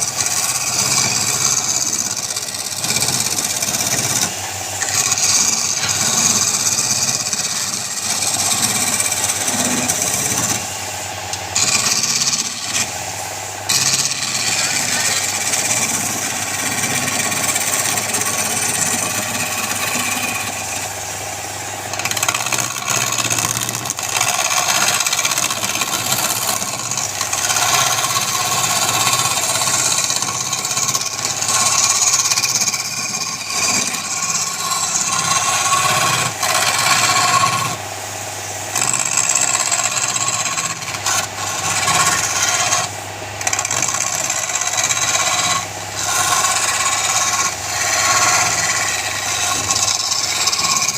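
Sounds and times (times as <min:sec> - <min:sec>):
lathe motor hum: 0:00.0 - 0:50.9
turning tool rasping on wood: 0:00.0 - 0:50.9.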